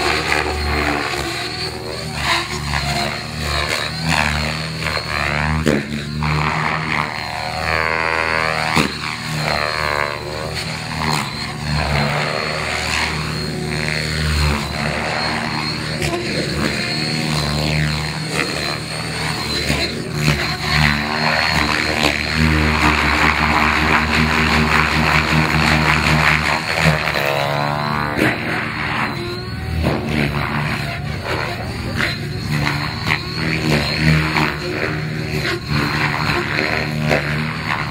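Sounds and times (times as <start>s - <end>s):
model helicopter rotor and motor: 0.0s - 37.9s.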